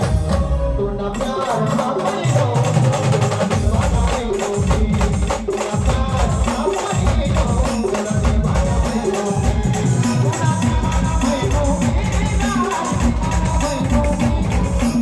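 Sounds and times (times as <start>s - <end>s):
rapid dense drumming: 0.0s - 15.0s.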